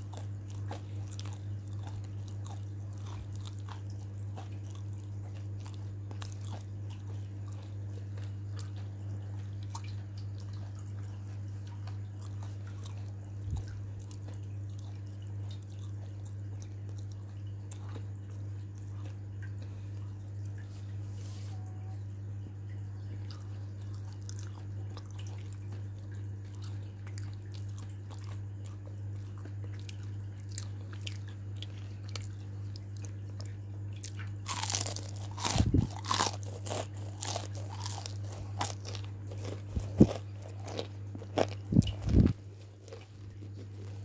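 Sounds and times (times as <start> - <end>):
crunchy flakes being chewed: 0.0 - 44.0.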